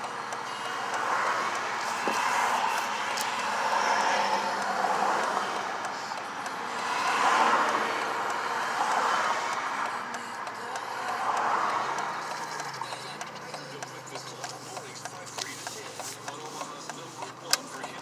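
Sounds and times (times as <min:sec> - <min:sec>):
passing vehicles rushing: 0:00.0 - 0:18.0.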